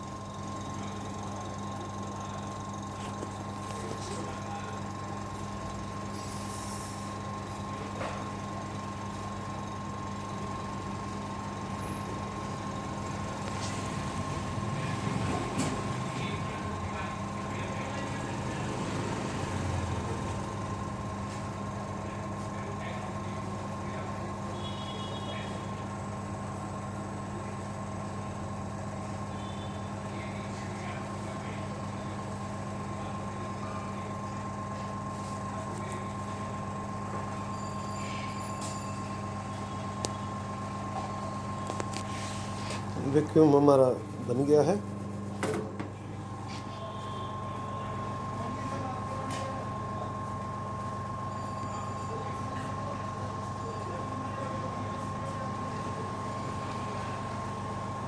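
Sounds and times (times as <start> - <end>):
vacuum pump humming: 0.0 - 58.0.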